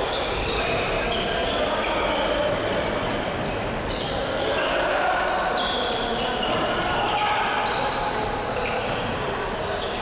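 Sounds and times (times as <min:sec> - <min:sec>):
hubbub of voices: 0:00.0 - 0:10.0
sneakers squeaking on floor: 0:00.0 - 0:10.0.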